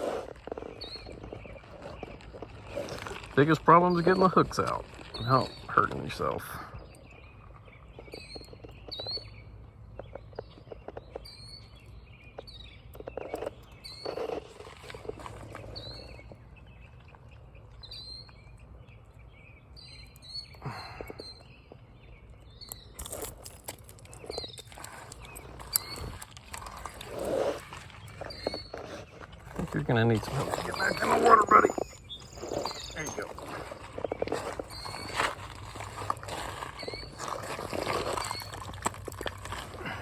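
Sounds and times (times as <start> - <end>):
bird chirping: 0.0 - 40.0.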